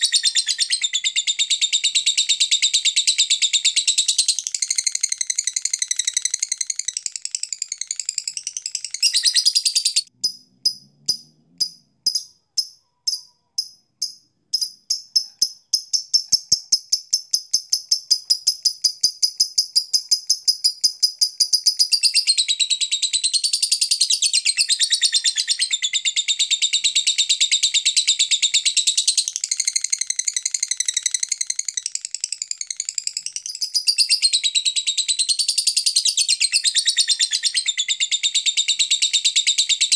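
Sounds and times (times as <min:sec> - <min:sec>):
bird chirps and trill: 0:00.0 - 0:39.9
lovebird chattering: 0:00.0 - 0:39.9.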